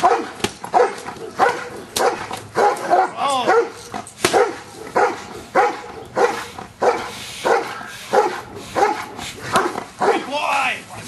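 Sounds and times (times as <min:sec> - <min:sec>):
dog barking: 0:00.0 - 0:10.3.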